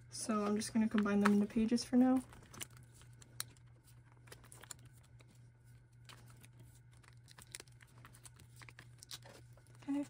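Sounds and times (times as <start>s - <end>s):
steady low hum: 0.0s - 10.0s
plastic sleeves crinkling: 0.3s - 10.0s.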